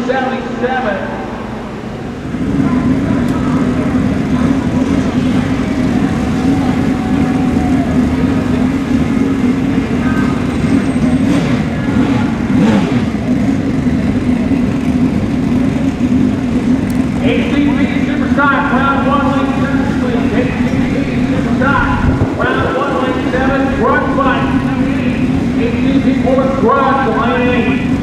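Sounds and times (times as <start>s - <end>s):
motorcycle engines droning: 0.0s - 28.0s.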